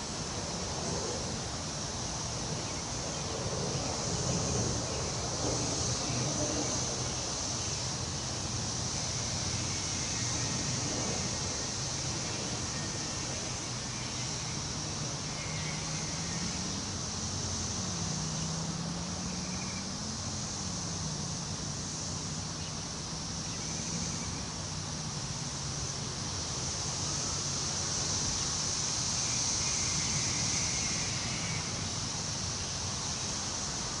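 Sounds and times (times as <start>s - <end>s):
wind rustling tree leaves: 0.0s - 34.0s.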